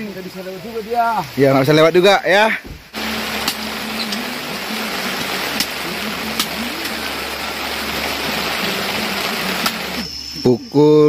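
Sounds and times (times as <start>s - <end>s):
rain hiss: 0.0s - 11.0s.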